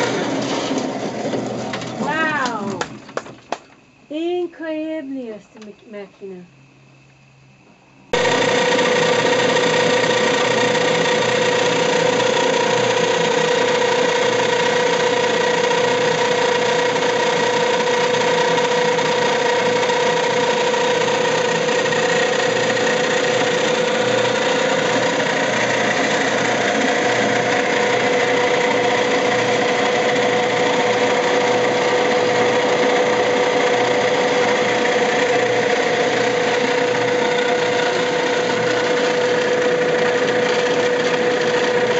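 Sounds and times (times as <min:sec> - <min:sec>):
machine motor humming: 0:00.0 - 0:03.2, 0:08.1 - 0:41.9.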